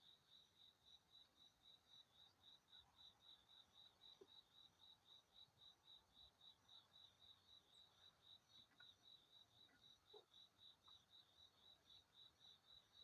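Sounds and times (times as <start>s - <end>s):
faint cricket chirping: 0.0s - 13.0s.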